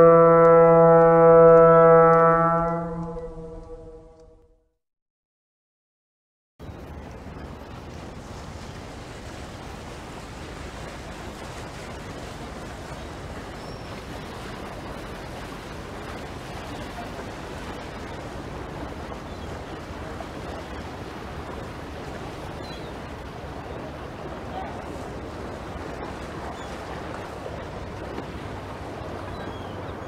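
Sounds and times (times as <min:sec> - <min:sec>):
sea: 0:00.0 - 0:04.4, 0:06.6 - 0:30.0
wind: 0:00.0 - 0:04.5, 0:06.6 - 0:30.0.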